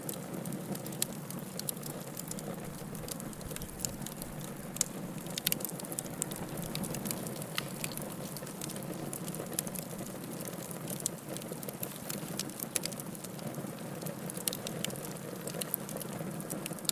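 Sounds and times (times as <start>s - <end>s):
logs crackling and popping: 0.0s - 16.9s
fire hissing: 1.3s - 16.9s.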